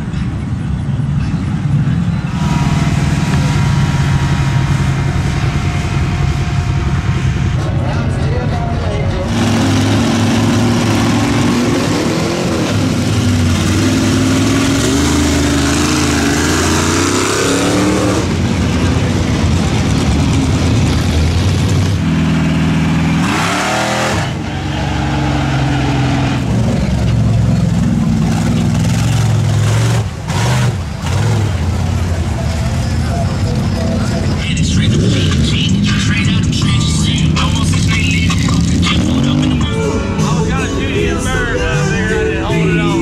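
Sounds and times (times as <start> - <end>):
steady rush of noise: 0.0 - 43.0
truck engine revving: 0.0 - 43.0.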